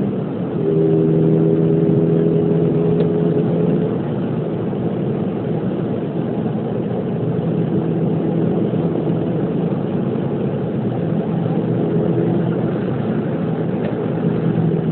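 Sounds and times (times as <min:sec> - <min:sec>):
car engine drone from inside: 0:00.0 - 0:14.9
road noise: 0:00.0 - 0:14.9.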